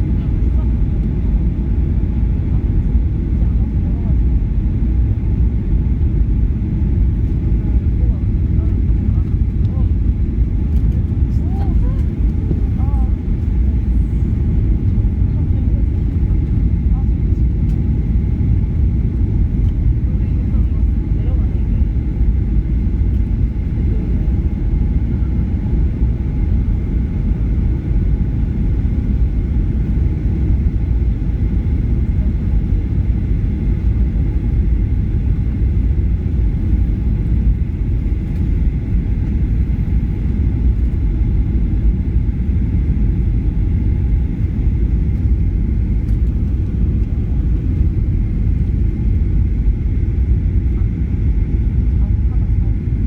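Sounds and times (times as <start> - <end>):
airliner cabin engine roar: 0.0 - 53.0.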